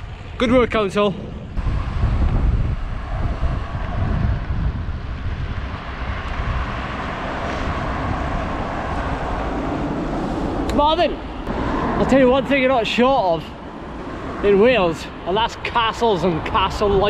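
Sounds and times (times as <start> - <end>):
road traffic: 0.0 - 17.0
wind rumbling on microphone: 0.0 - 17.0.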